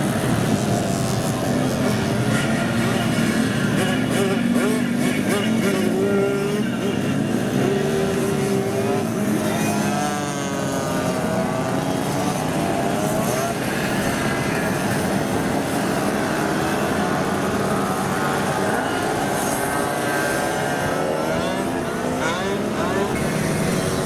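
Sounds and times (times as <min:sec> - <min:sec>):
mopeds riding past: 0:00.0 - 0:24.0.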